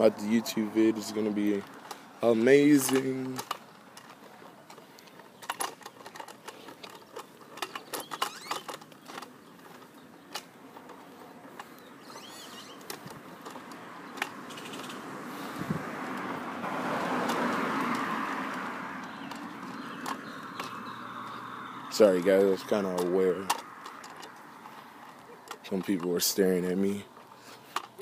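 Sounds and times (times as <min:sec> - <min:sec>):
vehicle passing: 0:00.0 - 0:28.0
clicking and rattling: 0:00.4 - 0:14.9, 0:17.1 - 0:28.0.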